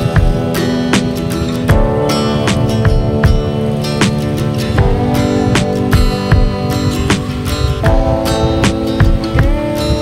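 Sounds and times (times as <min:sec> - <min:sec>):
steady drum beat: 0:00.0 - 0:10.0
strummed guitar chords: 0:00.0 - 0:10.0.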